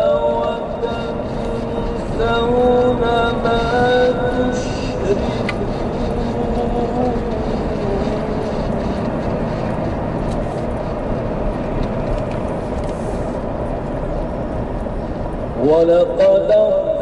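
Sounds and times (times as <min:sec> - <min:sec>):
engine and tyres rumbling on gravel: 0:00.0 - 0:17.0.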